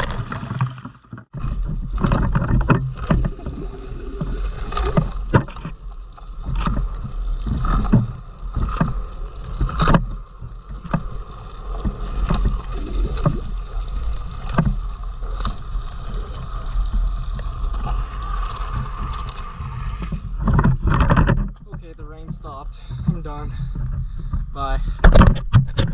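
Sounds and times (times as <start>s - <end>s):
rain and wind on microphone: 0.0s - 25.9s.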